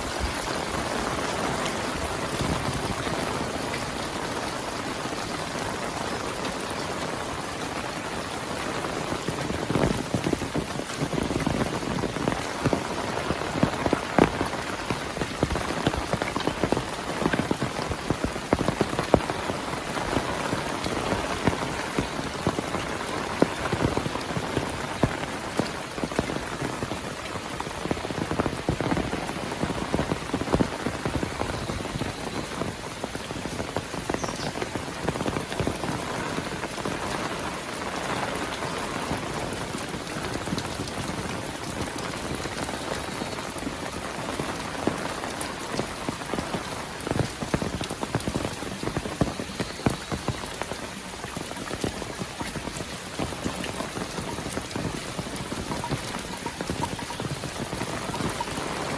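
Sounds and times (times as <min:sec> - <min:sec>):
heavy rain pattering: 0:00.0 - 0:58.9.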